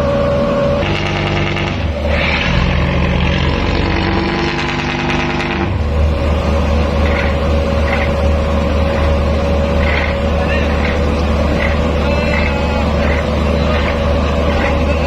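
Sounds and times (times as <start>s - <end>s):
boat engines deep rumble: 0.0s - 15.0s
second engine note: 0.0s - 15.0s.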